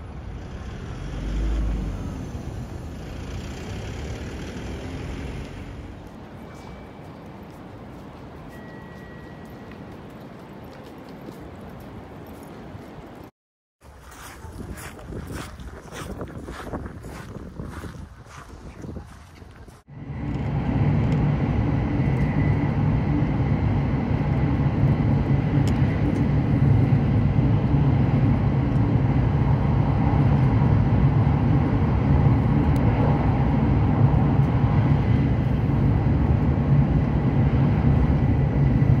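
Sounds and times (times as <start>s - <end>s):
vehicle engine rumble: 0.0s - 13.3s, 14.4s - 39.0s.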